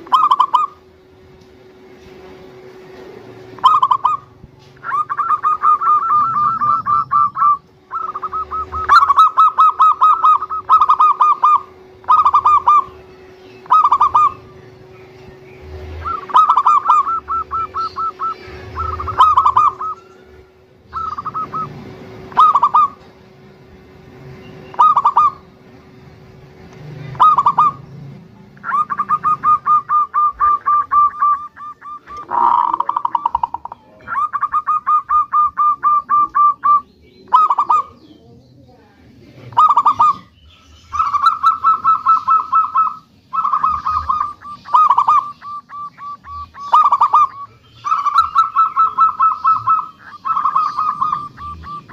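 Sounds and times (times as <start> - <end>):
dove trilled cooing: 0.0 - 1.1, 3.2 - 23.1, 24.5 - 25.5, 26.9 - 38.3, 39.2 - 51.9
faint steady hum: 0.0 - 51.9.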